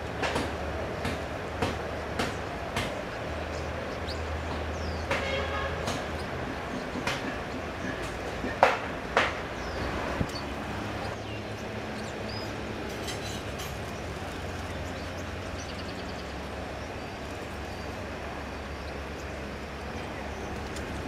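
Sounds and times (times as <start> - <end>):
low city rumble: 0.0 - 21.0.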